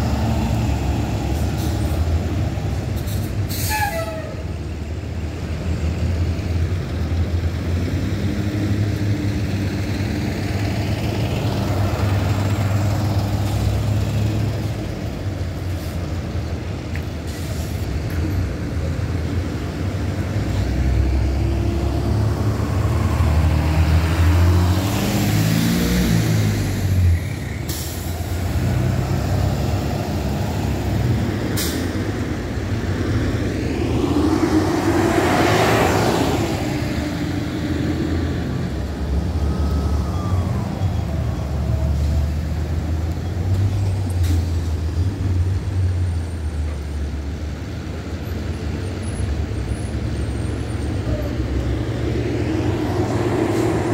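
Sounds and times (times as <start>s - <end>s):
buses accelerating past: 0.0s - 53.9s.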